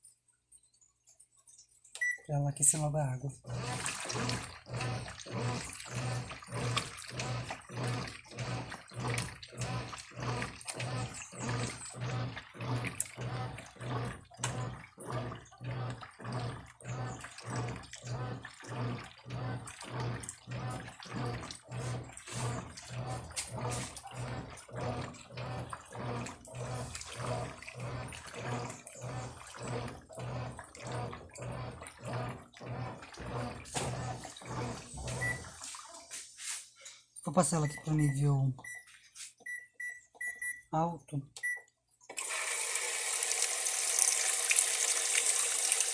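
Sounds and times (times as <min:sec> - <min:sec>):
washing machine water sloshing: 0:01.5 - 0:40.7, 0:41.4 - 0:45.9
washing machine low hum: 0:01.6 - 0:45.9.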